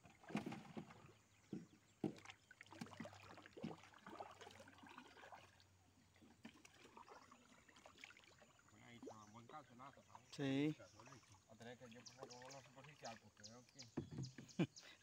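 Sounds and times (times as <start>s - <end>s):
faint water sounds: 0.0s - 15.0s.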